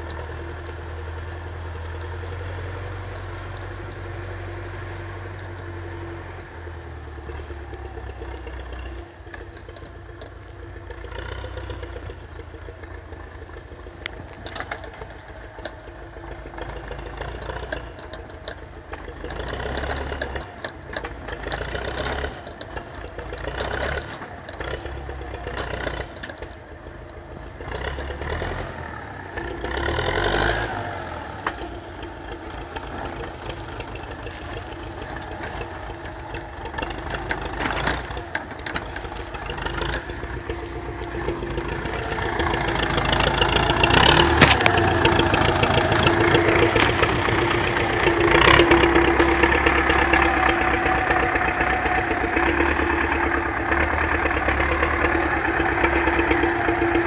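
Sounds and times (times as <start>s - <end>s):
tractor diesel engine running: 0.0s - 57.0s
trailer clatter and rattling: 0.0s - 57.0s.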